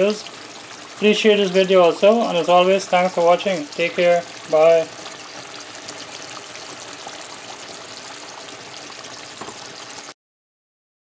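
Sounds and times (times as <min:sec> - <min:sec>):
curry bubbling in a pot: 0:00.0 - 0:10.2.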